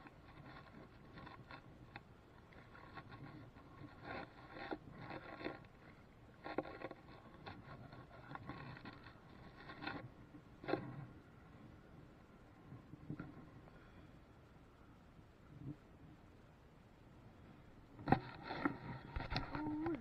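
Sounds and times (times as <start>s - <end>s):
scraping and rustling of fishing line: 0.0s - 14.2s, 18.0s - 20.0s.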